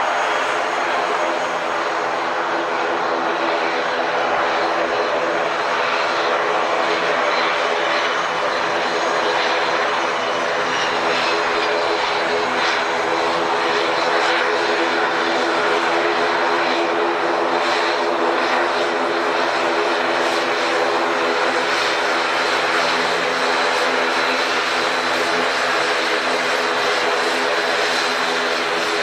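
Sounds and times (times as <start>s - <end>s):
engine roar: 0.0s - 29.0s
propeller drone: 0.0s - 29.0s.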